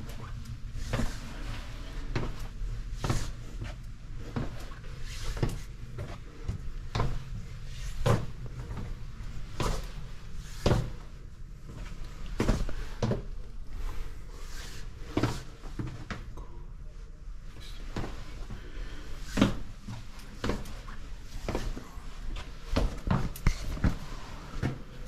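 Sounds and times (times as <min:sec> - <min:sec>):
footsteps on stairs with echo: 0:00.0 - 0:16.4, 0:17.8 - 0:25.0.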